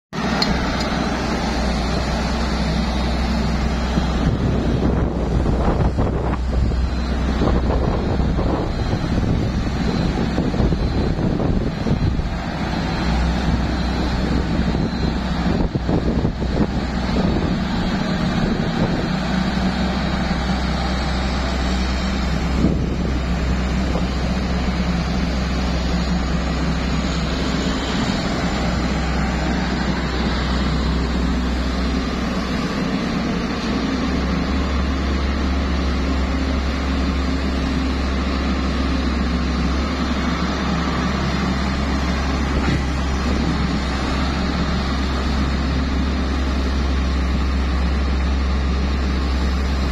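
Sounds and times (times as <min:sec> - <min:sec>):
diesel engine low drone: 0:00.1 - 0:49.9.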